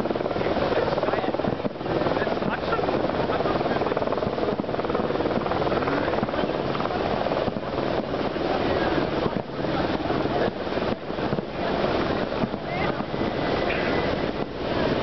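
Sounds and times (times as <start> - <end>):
people's voices: 0.3 - 4.4, 5.7 - 14.4.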